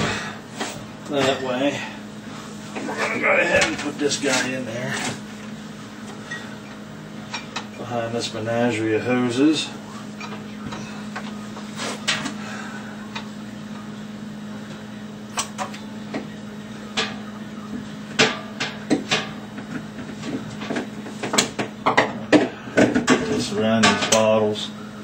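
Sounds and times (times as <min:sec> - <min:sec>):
fridge low hum: 0:00.0 - 0:25.0.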